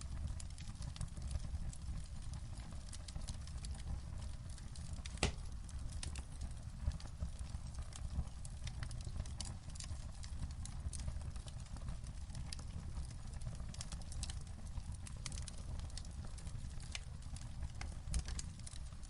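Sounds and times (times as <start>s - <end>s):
low steady fire rumble: 0.0s - 19.0s
wood fire crackling: 0.0s - 19.0s.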